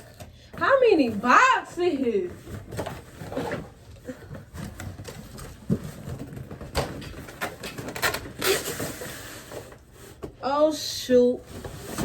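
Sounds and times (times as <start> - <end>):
cardboard boxes rustling and knocking: 0.0 - 10.4, 11.5 - 12.0.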